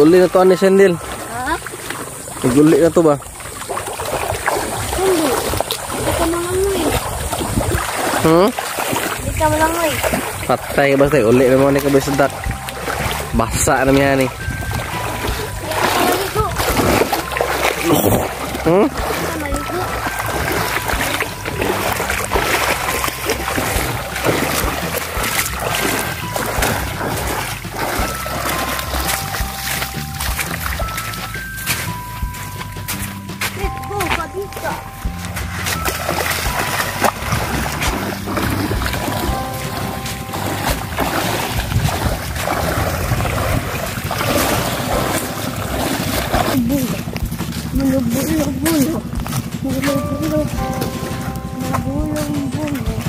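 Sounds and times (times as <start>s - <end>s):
small waves lapping and splashing: 0.0s - 53.0s
wind buffeting microphone: 1.0s - 29.5s, 33.6s - 53.0s.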